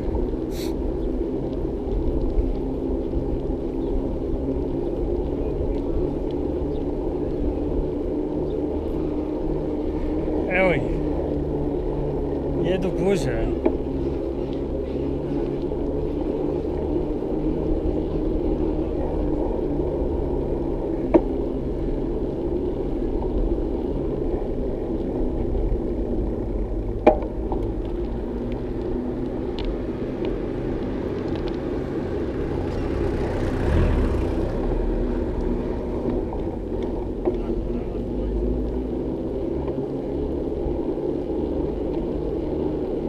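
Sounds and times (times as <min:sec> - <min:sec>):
wind and tyre rumble: 0:00.0 - 0:43.0.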